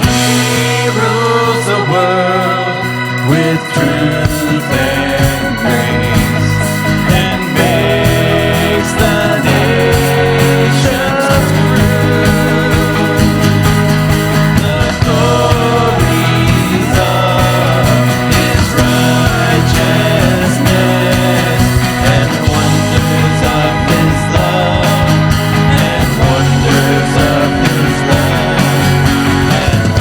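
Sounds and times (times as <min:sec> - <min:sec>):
bass: 0:00.0 - 0:30.0
organ-like keyboard: 0:00.0 - 0:30.0
worship band music: 0:00.0 - 0:30.0.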